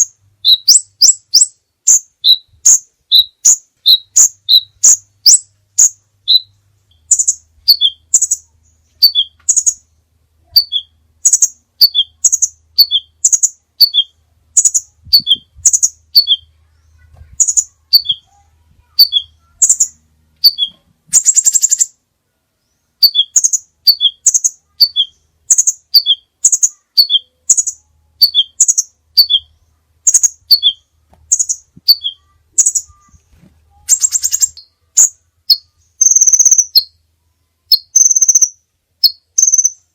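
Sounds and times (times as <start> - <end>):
buzzy bird trill: 0.0 - 22.0, 22.6 - 37.0, 37.6 - 39.9
songbird singing: 0.0 - 39.9.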